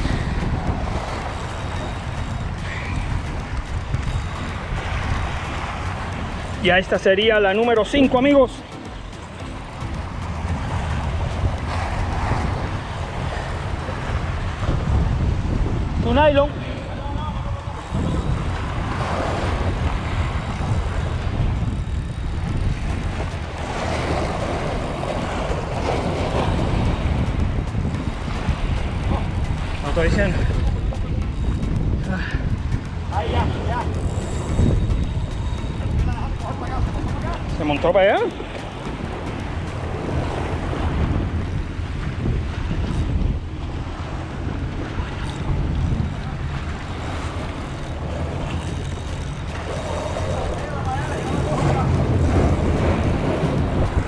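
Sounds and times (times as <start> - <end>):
waves splashing against rocks: 0.0 - 54.0
wind buffeting microphone: 0.0 - 54.0.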